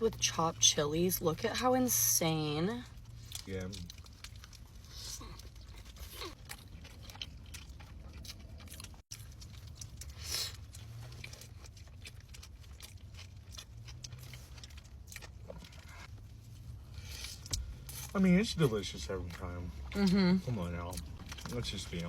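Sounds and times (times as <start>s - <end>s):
person chewing food: 2.9s - 22.0s.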